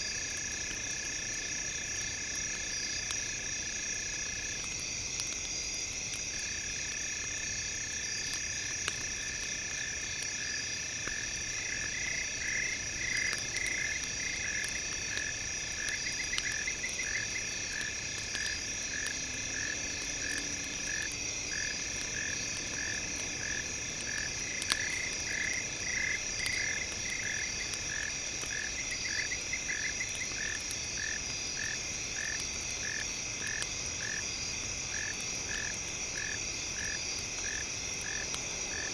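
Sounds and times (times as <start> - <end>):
faint crackles: 0.0 - 38.9.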